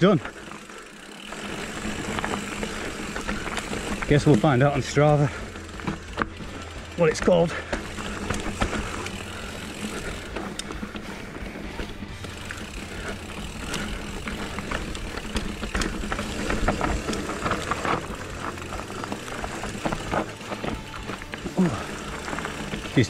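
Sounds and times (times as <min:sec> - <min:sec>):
bike clicks and rattles: 0:00.0 - 0:23.0
bike tyres rolling on dirt: 0:00.0 - 0:23.0
steady low hum: 0:00.2 - 0:23.0.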